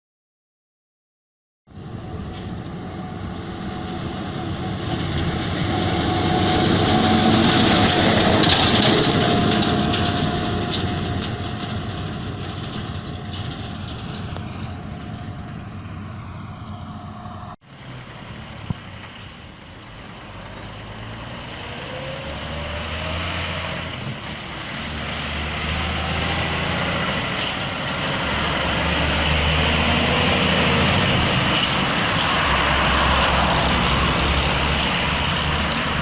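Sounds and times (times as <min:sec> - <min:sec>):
heavy vehicle passing: 0:01.8 - 0:36.0.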